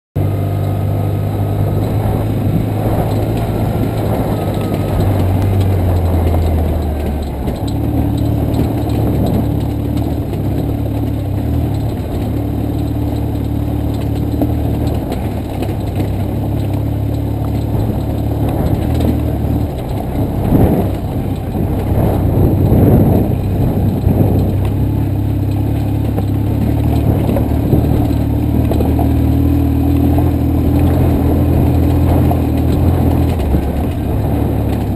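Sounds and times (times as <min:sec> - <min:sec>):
motorcycle engine running: 0:00.2 - 0:34.9
motorcycle rattling and knocking: 0:00.2 - 0:34.9.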